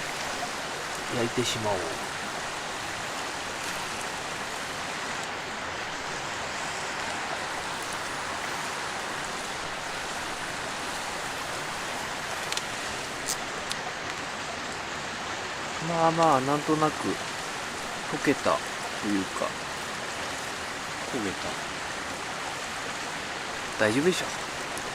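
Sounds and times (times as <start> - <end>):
river rushing: 0.0 - 24.9.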